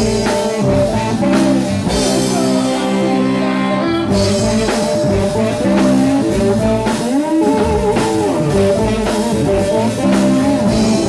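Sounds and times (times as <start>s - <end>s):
blues-rock band playing: 0.0s - 11.0s
electric guitar bending notes: 0.0s - 11.0s.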